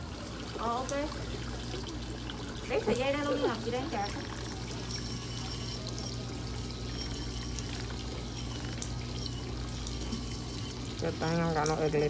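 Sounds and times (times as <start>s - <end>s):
low hum of spa tub: 0.0s - 12.0s
running water: 0.0s - 12.0s.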